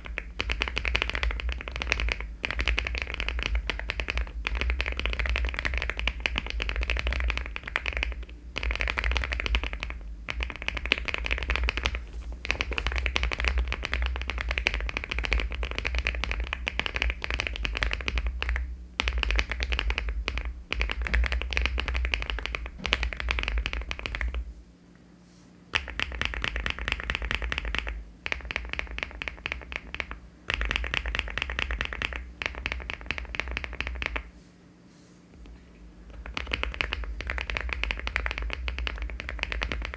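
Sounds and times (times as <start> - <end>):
mechanical keyboard typing: 0.0 - 24.4, 25.7 - 34.3, 36.1 - 39.9.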